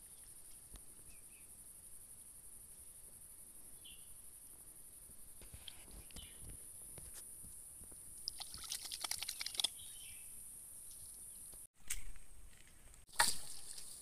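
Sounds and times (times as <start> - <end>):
steady high-pitched hiss: 0.0 - 8.3, 9.8 - 14.0.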